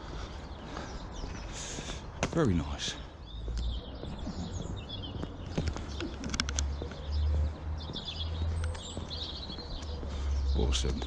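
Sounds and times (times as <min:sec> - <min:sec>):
birds singing and chirping: 0:00.0 - 0:11.0
footsteps on a path: 0:00.0 - 0:11.0.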